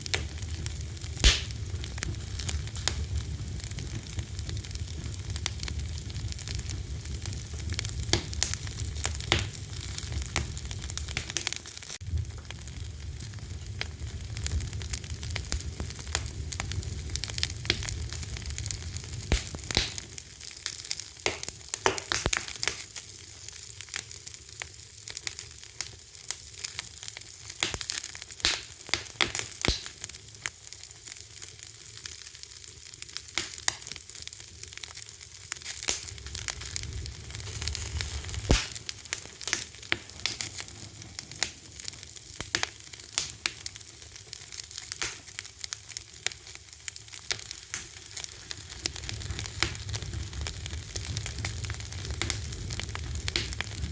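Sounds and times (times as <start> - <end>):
fire crackling: 0.0 - 53.9.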